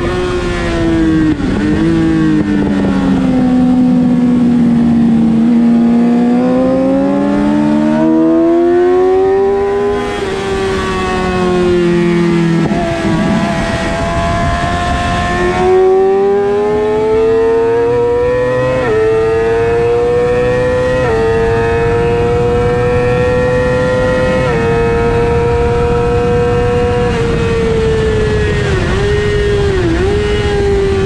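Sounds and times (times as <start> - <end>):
motorcycle engine accelerating: 0.0 - 31.0
wind rush on microphone: 0.0 - 31.0.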